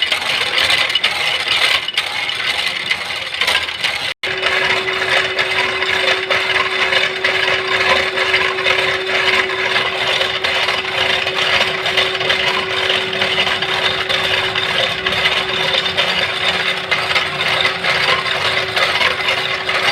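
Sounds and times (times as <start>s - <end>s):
motor hum: 0.0s - 19.9s
saw blade scraping metal: 0.0s - 19.9s.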